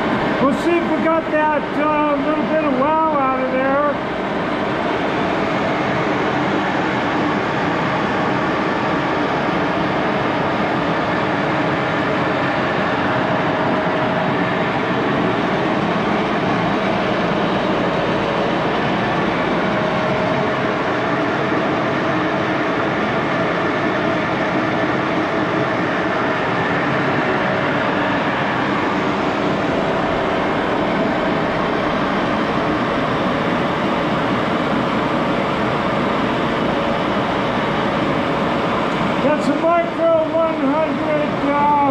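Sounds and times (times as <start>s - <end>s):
lathe gearing whirring: 0.0s - 41.9s.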